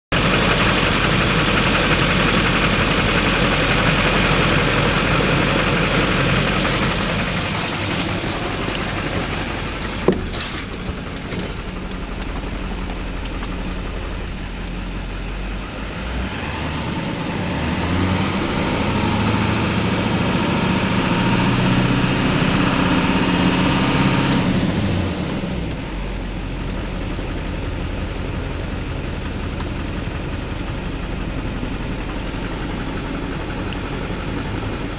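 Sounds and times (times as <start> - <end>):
diesel engine idling rough: 0.1 - 34.9.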